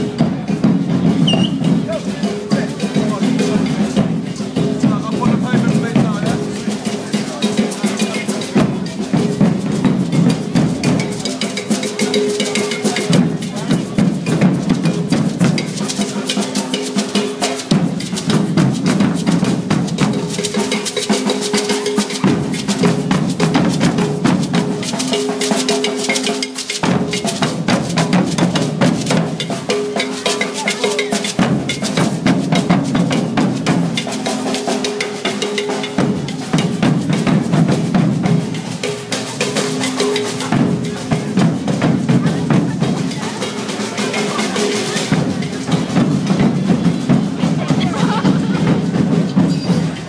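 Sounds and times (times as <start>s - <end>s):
percussion band drumming: 0.0s - 50.0s.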